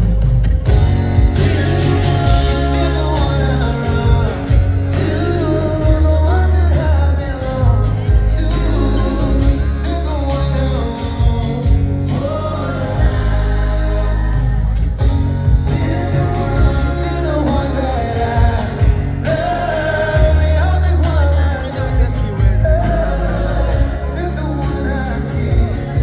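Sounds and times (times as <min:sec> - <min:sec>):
live band playing a ballad: 0:00.0 - 0:26.0
man singing: 0:01.2 - 0:26.0.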